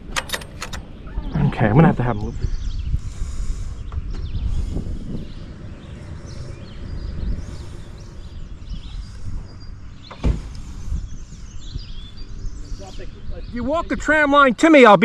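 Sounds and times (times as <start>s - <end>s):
low rumbling handling noise: 0.0s - 13.8s.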